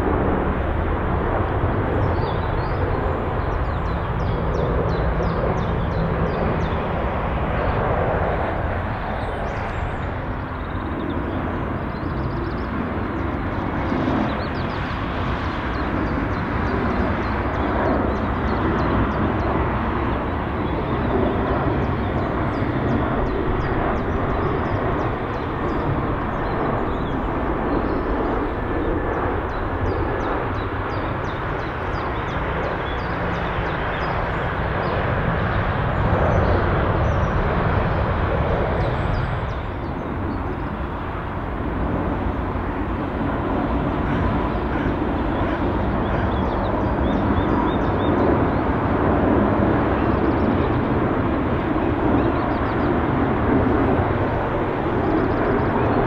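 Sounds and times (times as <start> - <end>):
distant jet engine rumble: 0.0 - 56.0.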